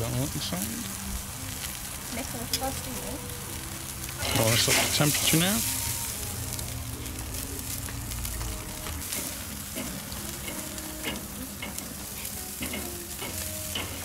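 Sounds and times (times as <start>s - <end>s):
sharp crackles: 0.0s - 14.0s
steak sizzling on grill: 0.0s - 14.0s.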